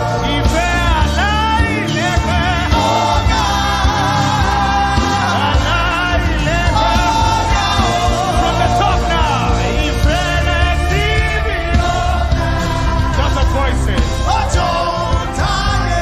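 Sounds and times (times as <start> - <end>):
band accompaniment with bass: 0.0 - 16.0
gospel singing voices: 0.0 - 16.0.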